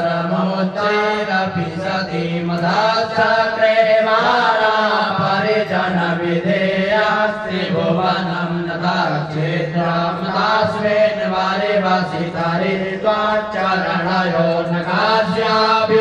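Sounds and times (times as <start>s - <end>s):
mantras chanted melodically: 0.0s - 16.0s.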